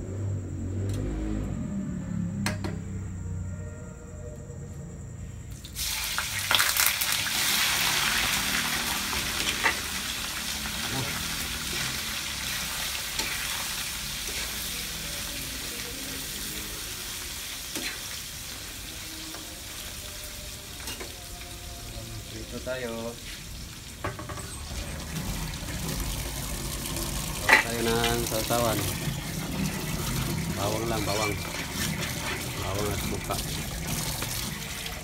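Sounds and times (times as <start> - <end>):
meat sizzling in hot oil: 5.6 - 35.0.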